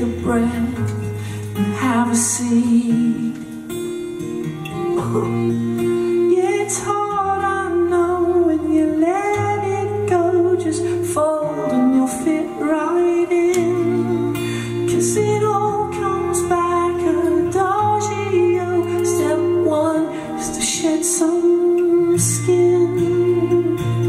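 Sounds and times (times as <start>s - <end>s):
man singing: 0.0s - 3.6s, 6.2s - 24.0s
acoustic guitars: 0.0s - 24.0s.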